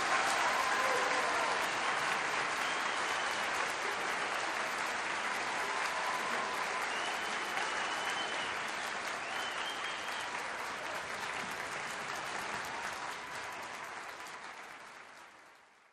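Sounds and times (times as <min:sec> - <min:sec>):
crowd applauding: 0:00.0 - 0:15.9.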